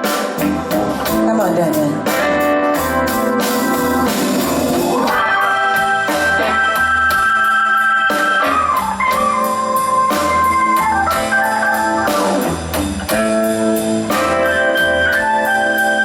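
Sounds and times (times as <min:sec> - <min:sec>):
blues band playing: 0:00.0 - 0:16.0.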